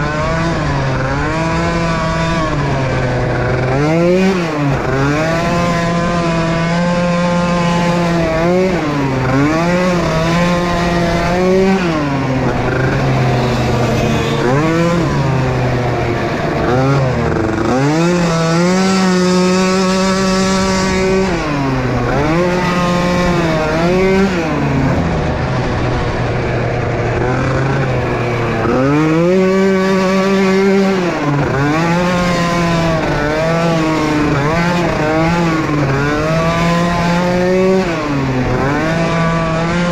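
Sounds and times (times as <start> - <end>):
atv engines revving: 0.0 - 39.9.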